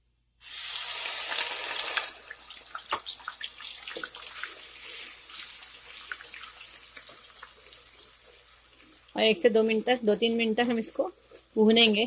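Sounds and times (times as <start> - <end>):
onion paste sizzling in oil: 0.4 - 12.0
wooden spoon stirring: 2.2 - 12.0.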